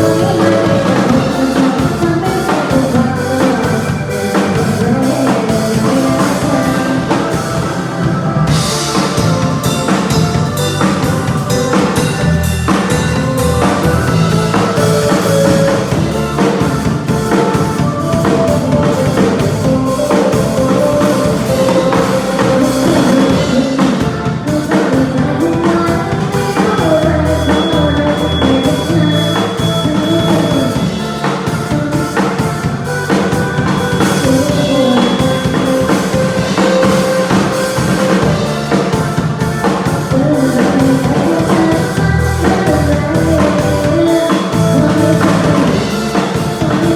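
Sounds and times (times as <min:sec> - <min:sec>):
bass: 0:00.0 - 0:46.9
drum kit beat: 0:00.0 - 0:46.9
wavering melody line: 0:00.0 - 0:46.9.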